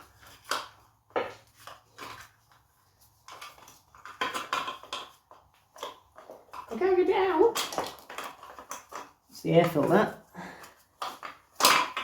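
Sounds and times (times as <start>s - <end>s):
parts knocking and clinking: 0.0s - 12.0s.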